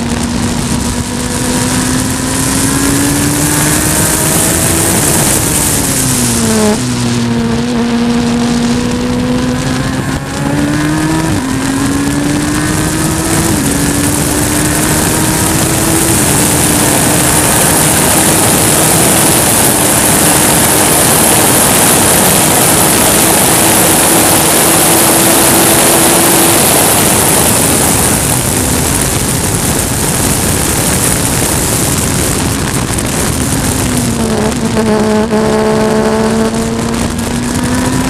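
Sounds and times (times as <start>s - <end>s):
race car engine at high revs: 0.0s - 38.0s
wind and road noise: 0.0s - 38.0s.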